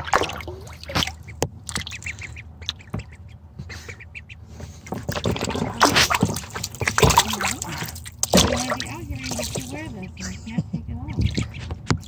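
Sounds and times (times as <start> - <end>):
bills dabbling in water: 0.0 - 12.0
ducklings peeping: 0.0 - 12.0.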